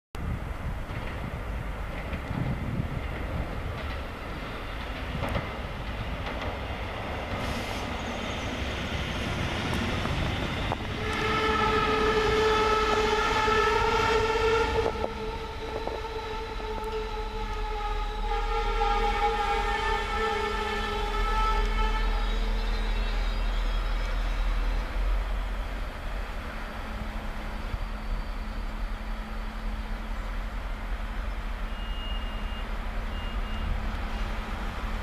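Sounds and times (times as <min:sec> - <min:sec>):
diesel railcar rumbling past: 0:00.2 - 0:35.0.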